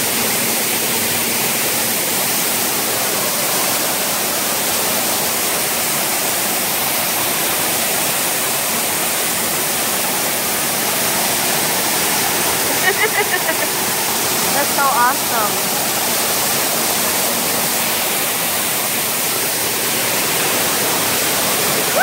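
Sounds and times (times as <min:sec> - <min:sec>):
waterfall rushing in cave: 0:00.0 - 0:22.0.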